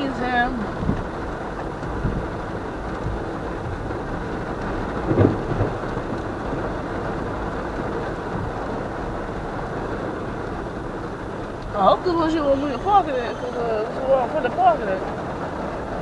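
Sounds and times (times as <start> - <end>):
car road noise: 0.0 - 16.0
heavy rain on a car: 0.0 - 16.0.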